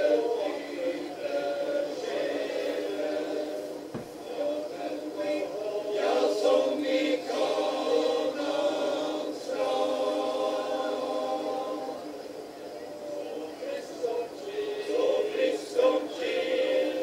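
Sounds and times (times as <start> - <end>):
male choir singing a hymn: 0.0 - 17.0.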